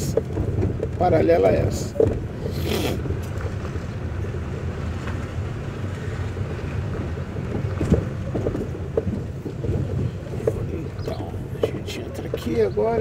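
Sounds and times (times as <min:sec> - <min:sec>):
car rumbling on dirt road: 0:00.0 - 0:13.0.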